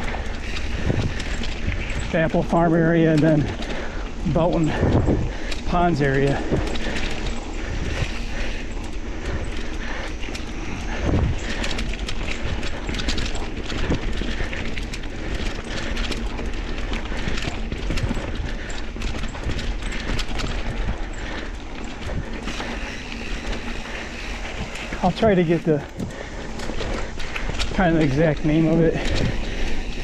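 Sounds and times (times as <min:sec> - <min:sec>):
bike frame and chain rattling: 0:00.0 - 0:30.0
tyre and wind rumble: 0:00.0 - 0:30.0.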